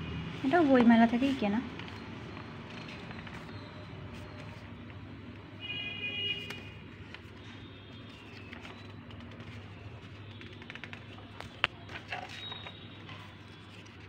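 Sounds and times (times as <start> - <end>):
book pages turning: 0.7 - 5.0, 6.4 - 14.0.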